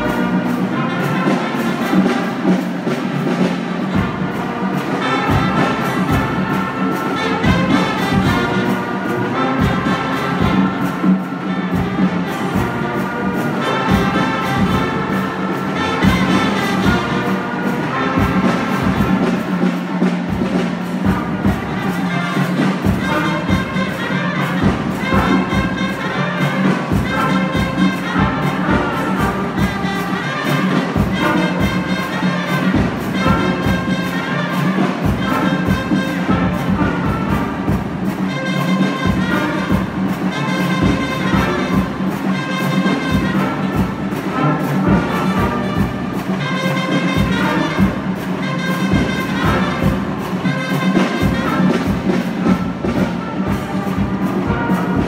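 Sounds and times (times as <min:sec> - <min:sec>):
brass band playing: 0:00.0 - 0:55.0
drum hits: 0:00.0 - 0:55.0.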